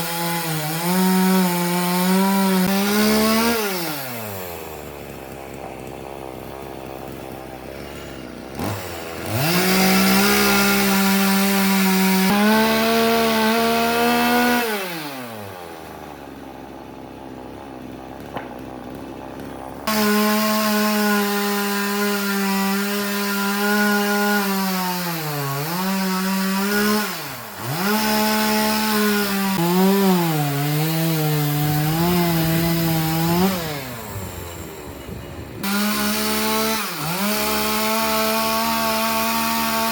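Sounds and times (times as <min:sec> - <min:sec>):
chainsaw revving and bogging: 0:00.0 - 0:39.9.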